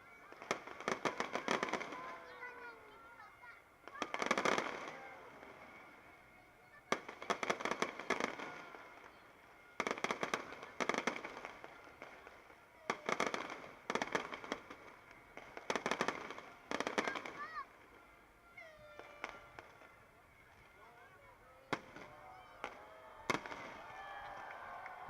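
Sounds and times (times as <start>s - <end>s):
fireworks crackling pops: 0.0s - 5.9s, 6.8s - 18.0s, 18.6s - 20.8s, 21.5s - 25.0s.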